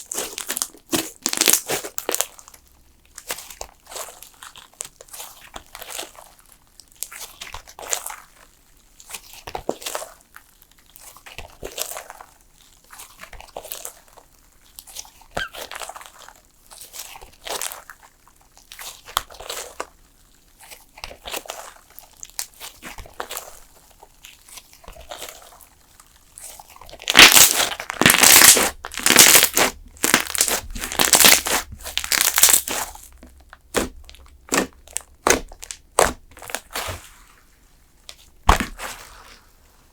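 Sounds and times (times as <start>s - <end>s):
crunchy slime squishes: 0.0s - 39.9s.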